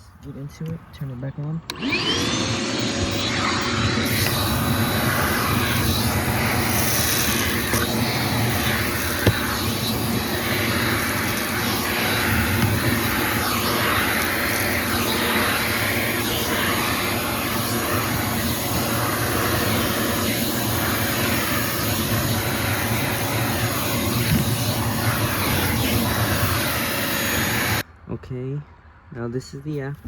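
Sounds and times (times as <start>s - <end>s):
shop vacuum running: 1.7s - 27.8s.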